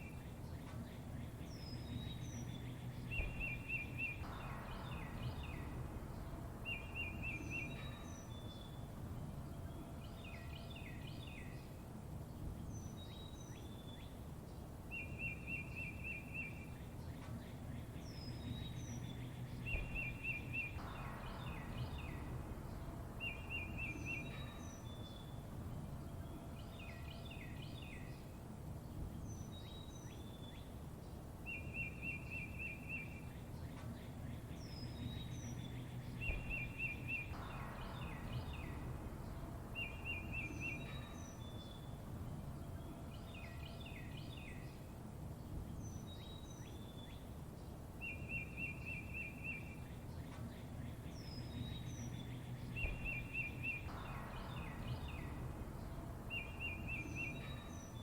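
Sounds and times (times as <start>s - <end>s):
steady low rumble: 0.0s - 13.2s, 16.6s - 31.5s, 32.9s - 48.0s, 49.5s - 58.0s
songbirds chirping: 0.0s - 58.0s.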